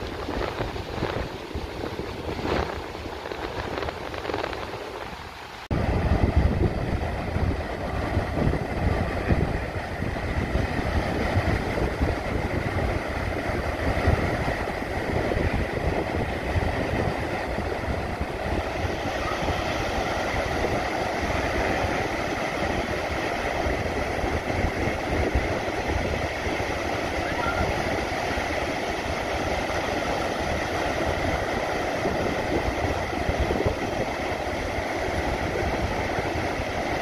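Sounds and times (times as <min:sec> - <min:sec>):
ocean surf breaking: 0:00.0 - 0:37.0
wind buffeting microphone: 0:00.0 - 0:37.0.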